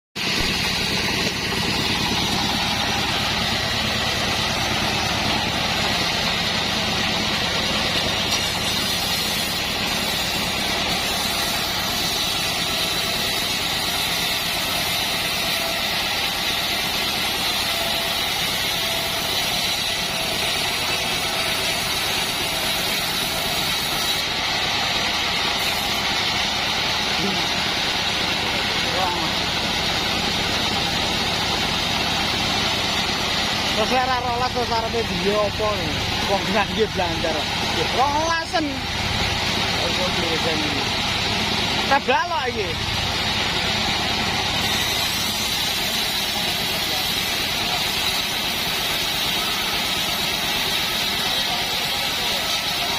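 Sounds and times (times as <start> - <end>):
band sawmill droning: 0.2 - 52.9.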